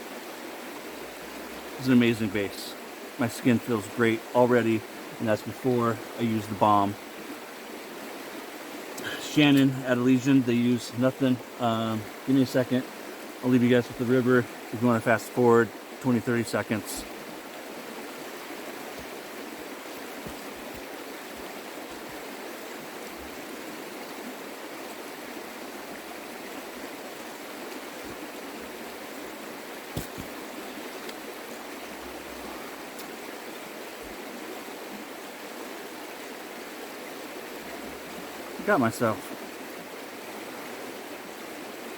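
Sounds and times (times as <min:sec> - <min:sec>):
creek running over rocks: 0:00.0 - 0:41.9.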